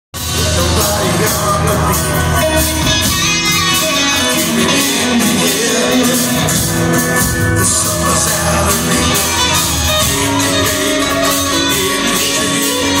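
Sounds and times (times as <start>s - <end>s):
live rock band playing: 0.2s - 13.0s.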